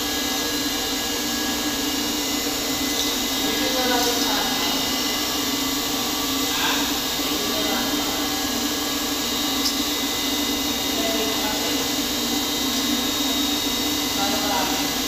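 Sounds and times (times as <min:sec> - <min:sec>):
water pump motor humming: 0:00.0 - 0:15.0.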